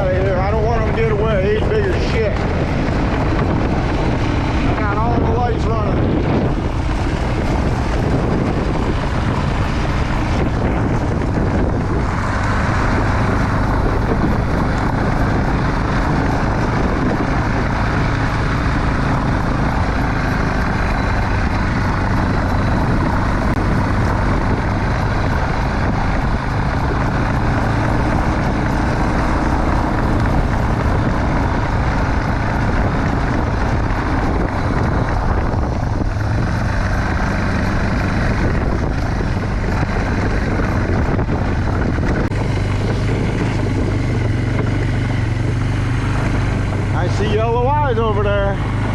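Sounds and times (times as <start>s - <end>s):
vehicle engine and road rumble: 0.0s - 48.9s.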